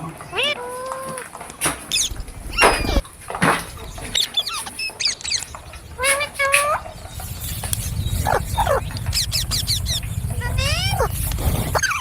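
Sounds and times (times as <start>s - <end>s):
parrot screeching and squawking: 0.2s - 3.1s, 3.8s - 12.0s.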